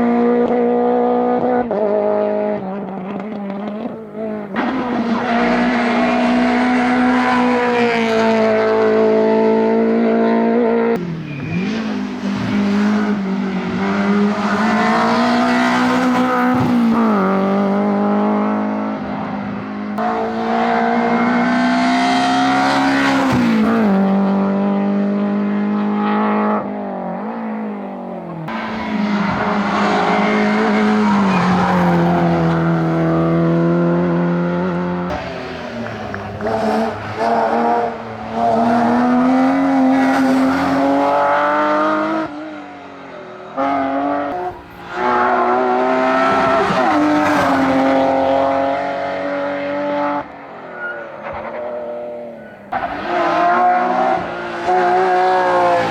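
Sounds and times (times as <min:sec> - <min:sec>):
rally car engine revving hard: 0:00.0 - 0:27.3, 0:28.4 - 0:42.6, 0:43.5 - 0:55.9.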